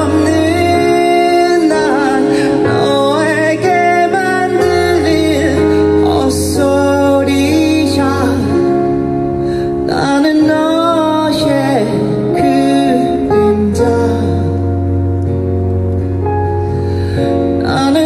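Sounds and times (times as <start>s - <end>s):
man singing into microphone: 0.0s - 15.2s, 17.2s - 18.0s
live band: 0.0s - 18.0s.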